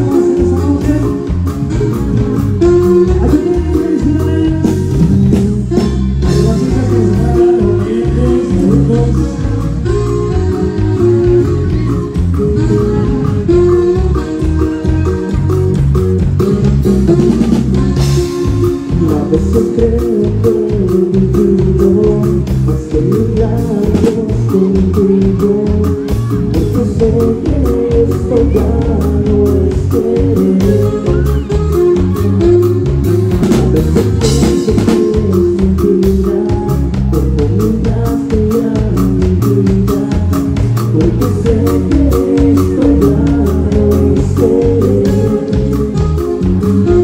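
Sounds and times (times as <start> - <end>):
drum kit beat: 0.0 - 47.0
guitar: 0.0 - 47.0
live dance band through speakers: 0.0 - 47.0.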